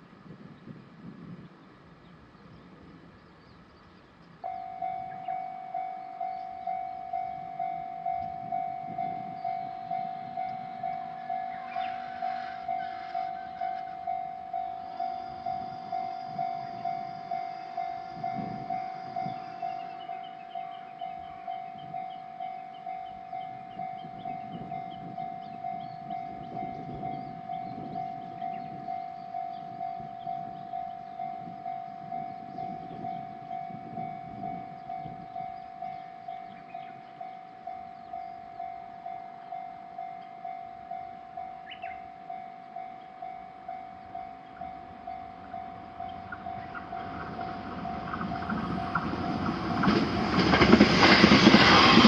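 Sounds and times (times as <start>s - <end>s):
train running noise: 0.0s - 52.0s
railroad crossing bell ringing: 4.4s - 52.0s.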